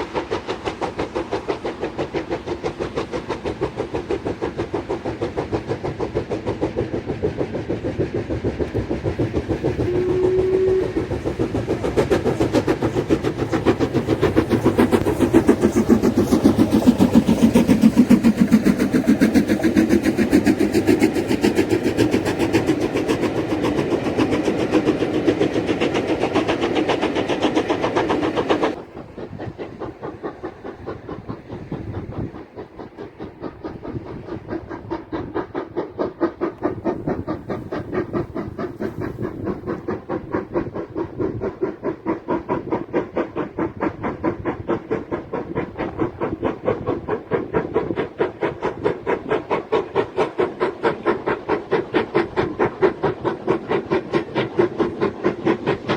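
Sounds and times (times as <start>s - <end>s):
steam locomotive chuffing: 0.0s - 55.9s.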